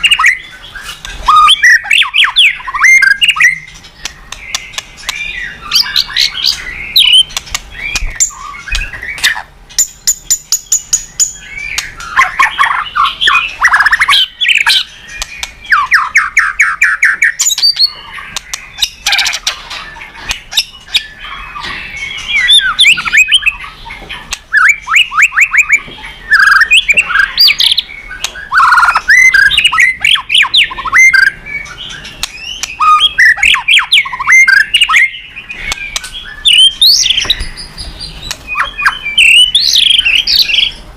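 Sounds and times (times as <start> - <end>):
songbird singing trills and whistles: 0.0 - 40.9.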